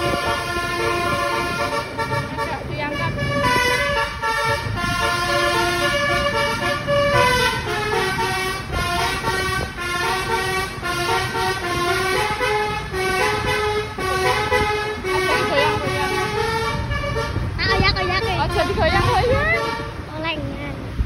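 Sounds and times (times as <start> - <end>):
bus melodic horn tune: 0.0 - 20.1
engine and road rumble: 0.0 - 21.0.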